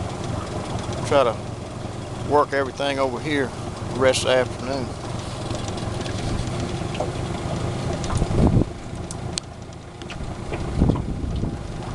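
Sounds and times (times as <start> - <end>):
boat motor idling: 0.0 - 11.9.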